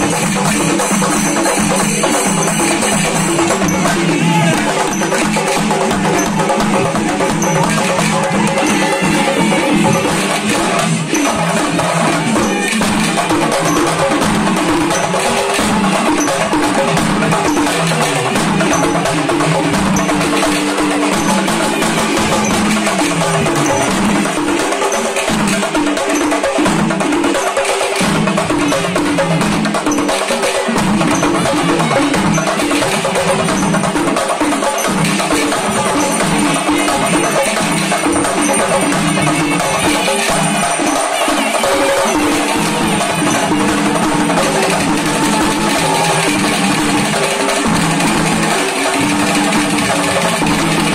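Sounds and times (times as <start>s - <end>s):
drums in fast rhythm: 0.0s - 50.9s.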